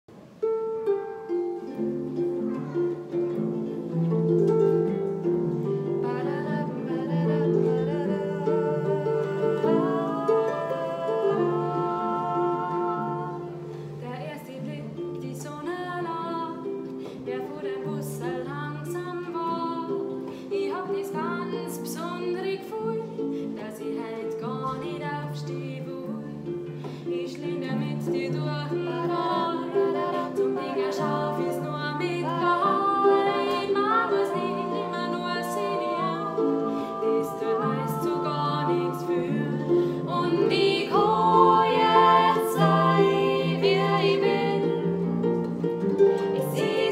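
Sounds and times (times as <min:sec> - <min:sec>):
harp playing chords: 0:00.4 - 0:17.1, 0:24.8 - 0:46.9
women singing: 0:04.3 - 0:46.9.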